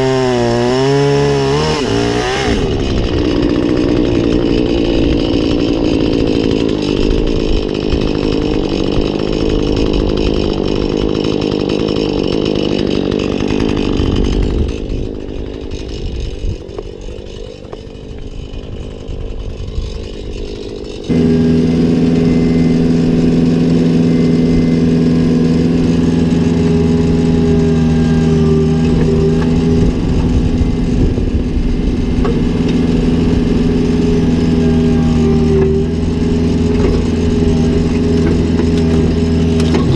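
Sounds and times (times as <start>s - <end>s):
chainsaw running rough: 0.0s - 39.9s
engine humming steadily: 0.0s - 39.9s.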